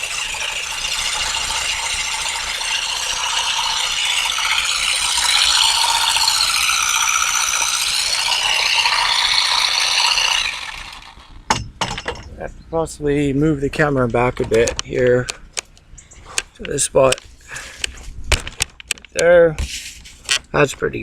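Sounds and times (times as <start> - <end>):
olive harvester combs clattering: 0.0 - 12.5, 13.7 - 21.0.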